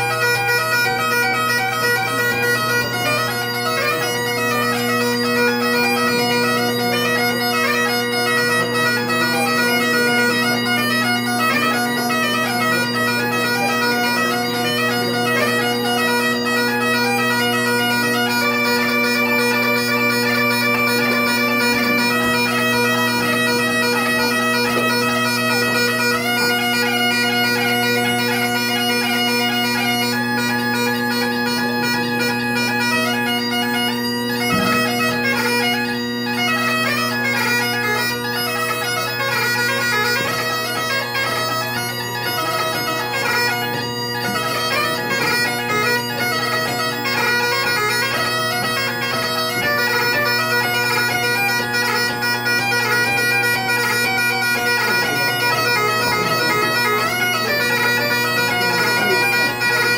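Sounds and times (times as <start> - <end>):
bagpipe chanter melody: 0.0 - 59.9
bagpipe drones: 0.0 - 59.9.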